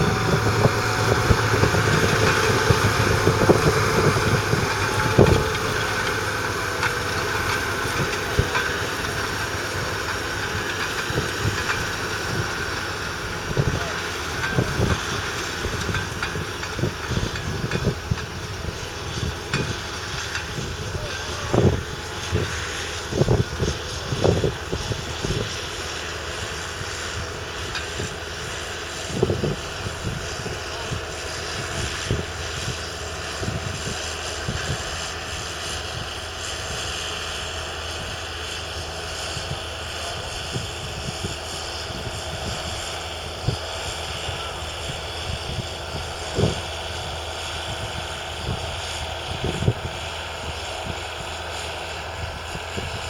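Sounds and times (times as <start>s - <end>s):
tractor diesel engine droning: 0.0s - 53.0s.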